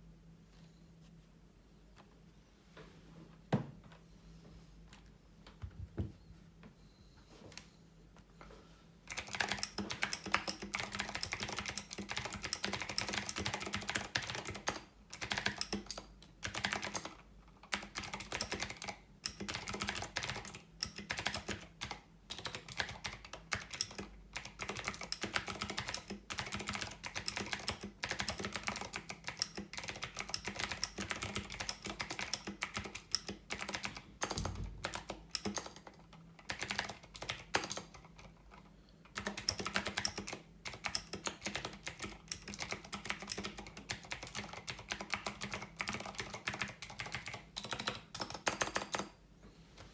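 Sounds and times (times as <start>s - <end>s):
mechanical keyboard typing: 9.1s - 49.2s.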